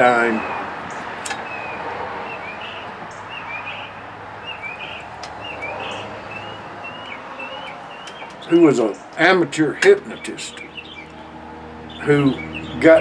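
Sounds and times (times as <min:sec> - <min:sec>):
small bird chirping: 0:00.9 - 0:12.8.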